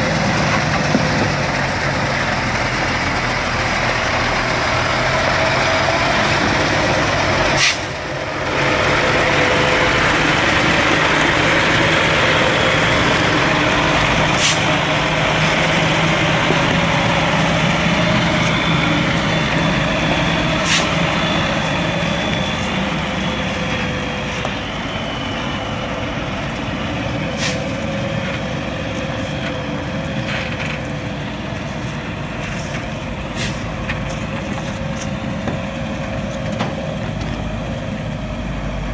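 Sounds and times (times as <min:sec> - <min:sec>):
heavy truck engine running: 0:00.0 - 0:38.9.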